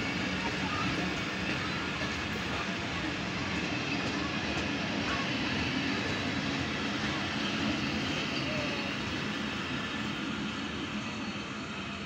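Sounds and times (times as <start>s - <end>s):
passenger train running: 0.0s - 12.0s.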